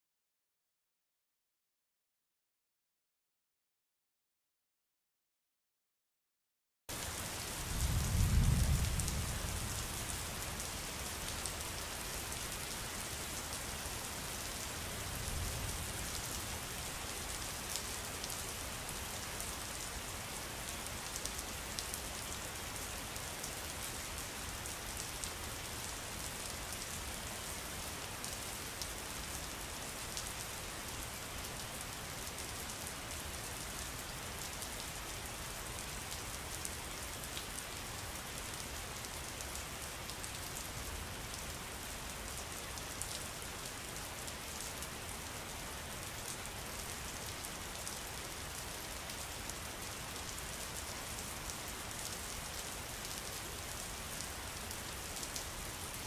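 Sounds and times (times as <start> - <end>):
rain pattering on water: 6.9 - 56.0.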